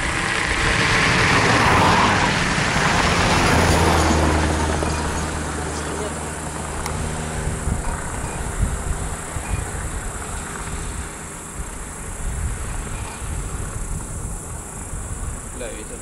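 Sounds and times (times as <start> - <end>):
model airplane buzzing overhead: 0.0 - 15.6
wind buffeting microphone: 0.0 - 16.0.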